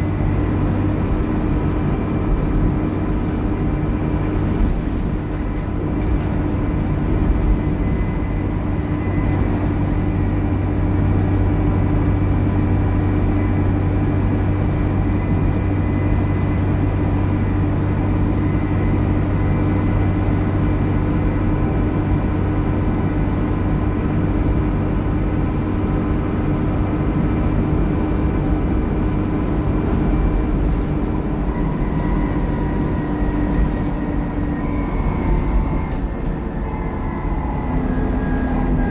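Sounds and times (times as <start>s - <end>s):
bus engine drone with whine: 0.0s - 38.9s.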